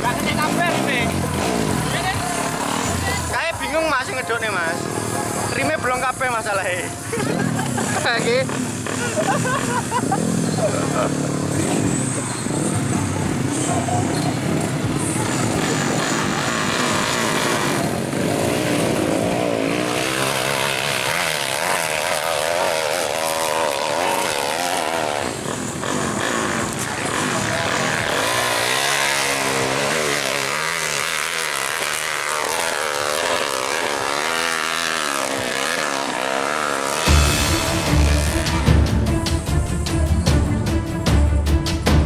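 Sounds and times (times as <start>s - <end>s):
dirt bike engine revving: 0.0s - 40.8s.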